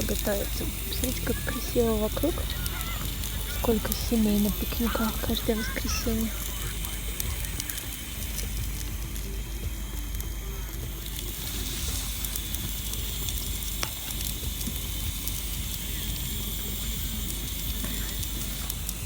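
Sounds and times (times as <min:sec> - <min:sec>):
fish sizzling on a grill: 0:00.0 - 0:19.0.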